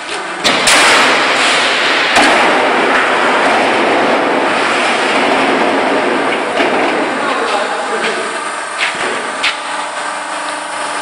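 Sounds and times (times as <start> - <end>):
roll-forming machine metallic din: 0.4 - 9.4.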